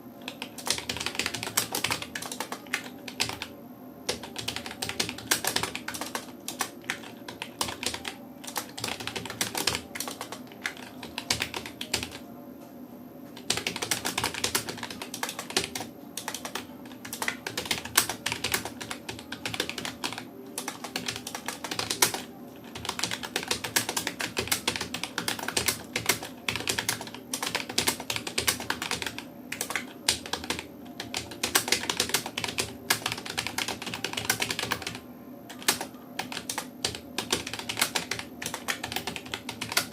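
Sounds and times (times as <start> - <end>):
fast typing on keyboard: 0.3 - 3.5, 4.1 - 12.2, 13.4 - 39.9.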